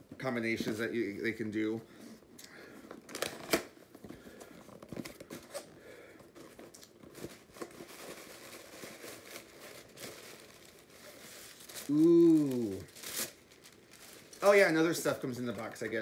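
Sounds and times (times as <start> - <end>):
cardboard crinkling rustle: 3.0 - 16.0.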